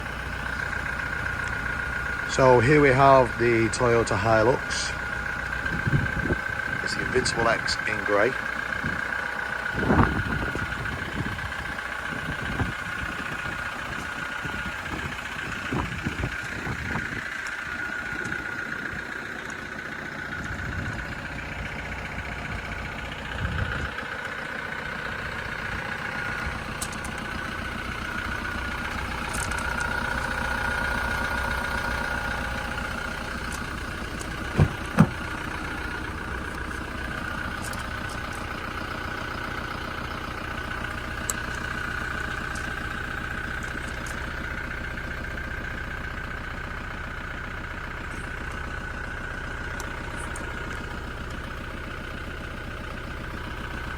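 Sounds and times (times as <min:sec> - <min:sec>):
vehicle engine idling: 0:00.0 - 0:53.9.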